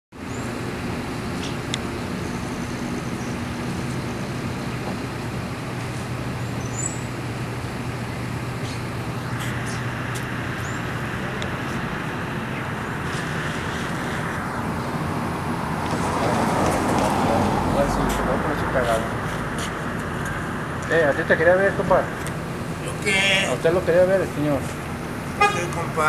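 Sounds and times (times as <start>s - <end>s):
vehicle engine hum: 0.1s - 26.0s.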